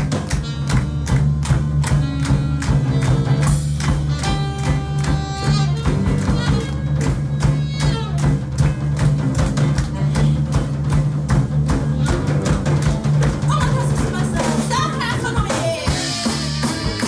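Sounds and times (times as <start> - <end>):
bass line: 0.0 - 17.0
drums beating: 0.0 - 17.0.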